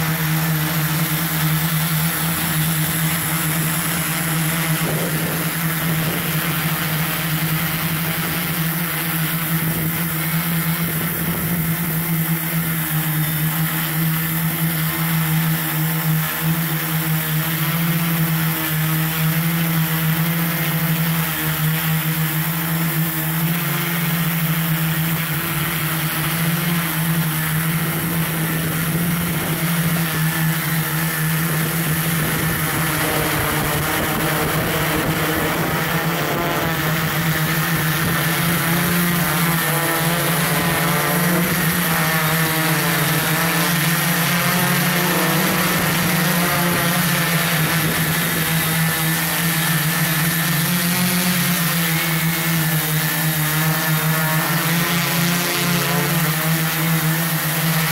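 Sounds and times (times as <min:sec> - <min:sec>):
drone motors and propellers humming: 0:00.0 - 0:57.9.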